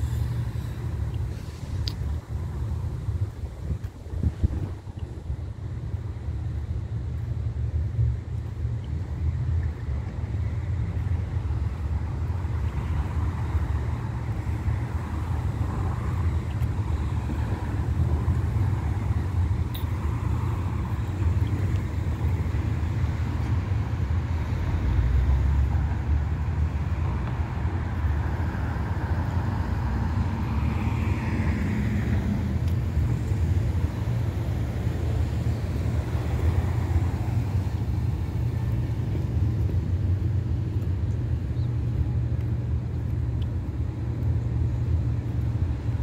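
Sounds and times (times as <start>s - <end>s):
road traffic: 0.0s - 46.0s.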